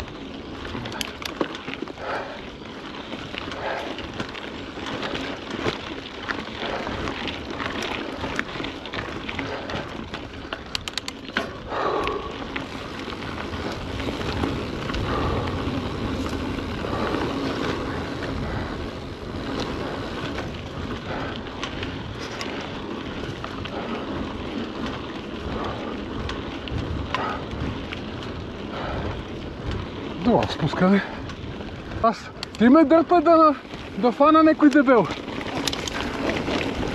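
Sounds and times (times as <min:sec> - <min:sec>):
bike rattling over bumps: 0:00.0 - 0:36.9
bike tyres rolling on dirt: 0:00.0 - 0:36.9.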